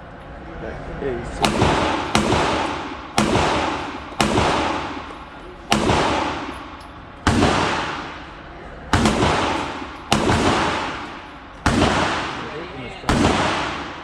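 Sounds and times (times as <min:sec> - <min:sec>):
pistol shots echoing indoors: 0:01.4 - 0:14.0.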